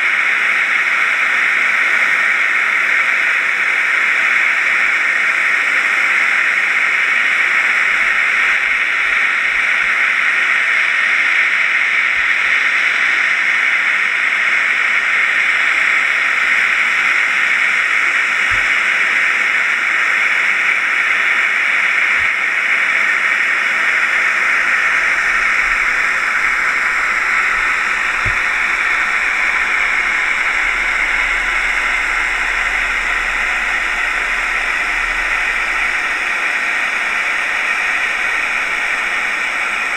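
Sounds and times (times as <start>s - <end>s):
underwater hiss: 7.2s - 39.9s.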